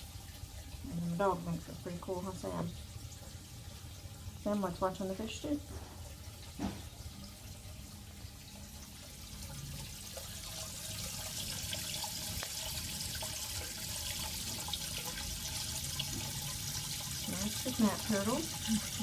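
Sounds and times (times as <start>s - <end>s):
aquarium water trickling: 0.0s - 19.0s.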